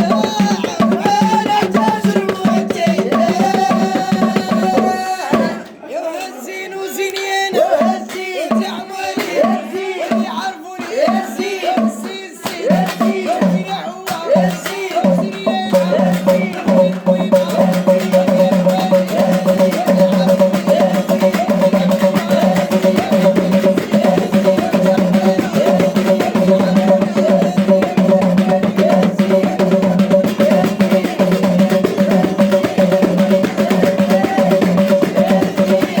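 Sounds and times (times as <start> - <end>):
percussion beat: 0.0 - 5.8, 7.0 - 36.0.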